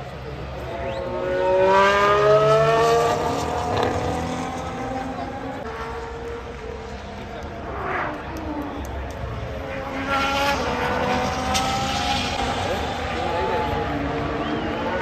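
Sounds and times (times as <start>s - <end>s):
race car accelerating past: 0.6s - 15.0s.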